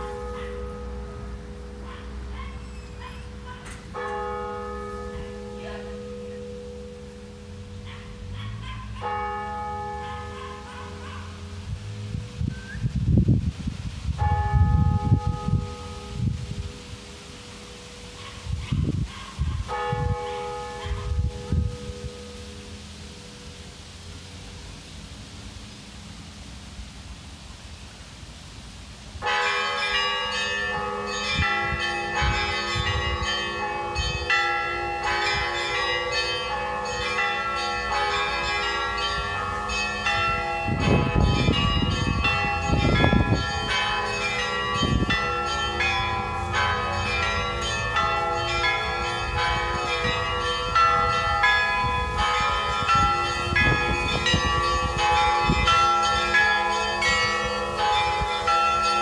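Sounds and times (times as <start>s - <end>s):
church bells ringing: 0.0s - 12.5s, 14.1s - 24.8s, 29.2s - 59.0s.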